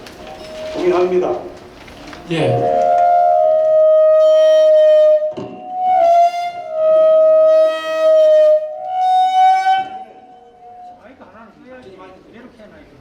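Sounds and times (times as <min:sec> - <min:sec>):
flute-like held notes: 0:00.2 - 0:01.7, 0:02.3 - 0:11.3.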